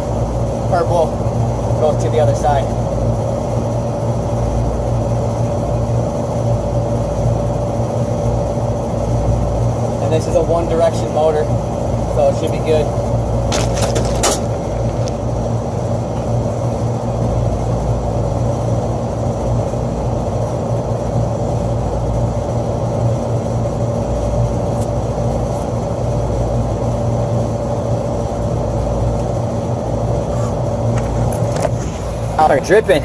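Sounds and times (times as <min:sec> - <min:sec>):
air conditioning unit humming: 0:00.0 - 0:33.0.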